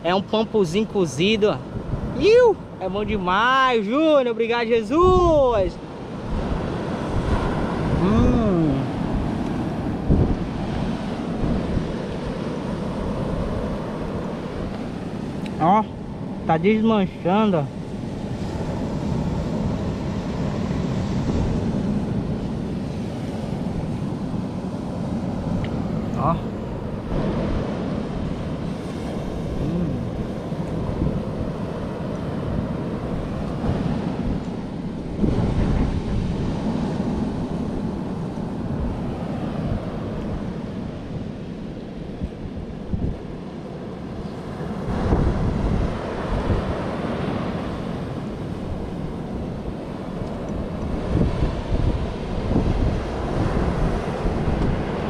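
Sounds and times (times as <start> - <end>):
beach surf rushing: 0.0 - 55.0
wind buffeting microphone: 0.0 - 55.0.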